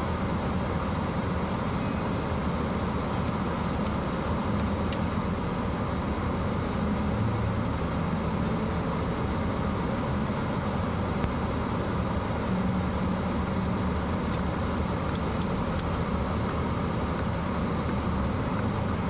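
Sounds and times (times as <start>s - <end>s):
car engine idling: 0.0s - 19.0s
heater fan blowing: 0.0s - 19.0s.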